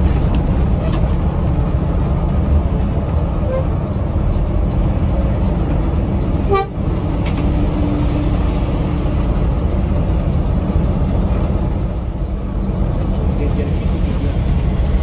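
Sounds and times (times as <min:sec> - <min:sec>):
bus diesel engine rumble: 0:00.0 - 0:15.0
road noise: 0:00.0 - 0:15.0.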